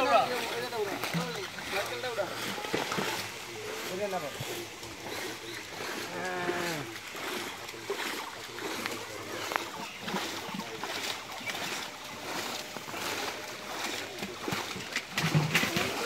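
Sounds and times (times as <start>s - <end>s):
fish thrashing at the surface: 0.0s - 16.0s
water splashing and churning: 0.0s - 16.0s.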